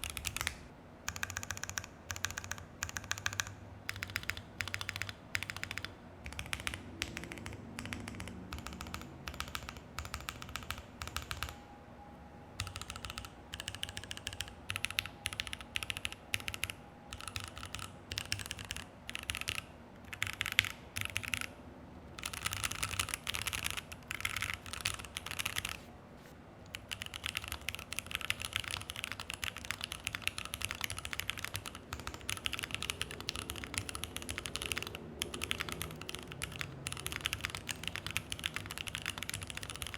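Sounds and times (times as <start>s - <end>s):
mechanical keyboard typing: 0.0s - 11.6s, 12.6s - 21.5s, 22.2s - 25.8s, 26.7s - 39.9s.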